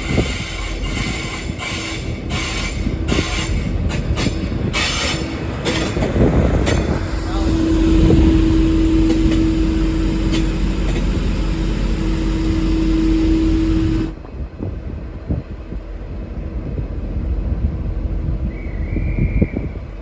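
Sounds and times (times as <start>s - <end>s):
wind rumble on microphone: 0.0s - 10.3s, 11.8s - 20.0s
diesel locomotive running: 0.0s - 20.0s.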